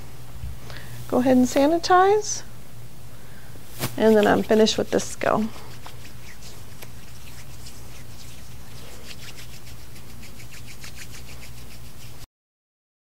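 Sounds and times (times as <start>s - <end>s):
low room hum: 0.0s - 12.3s.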